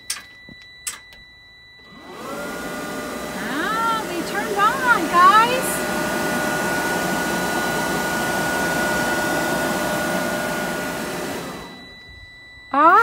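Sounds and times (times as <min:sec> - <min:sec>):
thin motor whine: 0:00.4 - 0:13.0
blower fan air rush: 0:01.9 - 0:12.4.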